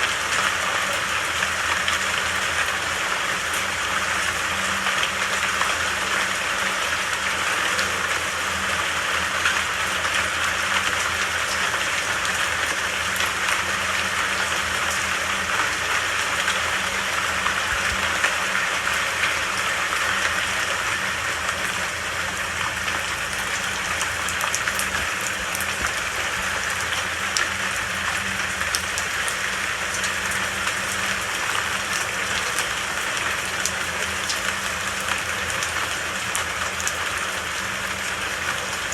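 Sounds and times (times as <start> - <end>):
rain falling: 0.0 - 38.9
raindrops ticking: 0.1 - 38.9.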